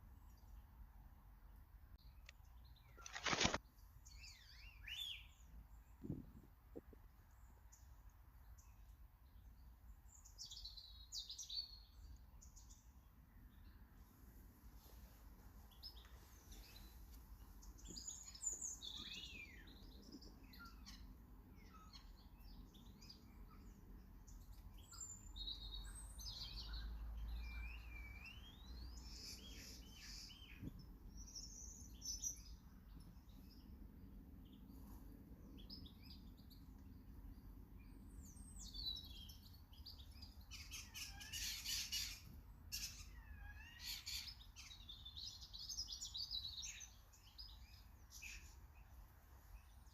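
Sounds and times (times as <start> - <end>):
small birds chirping and singing: 1.9 - 49.9.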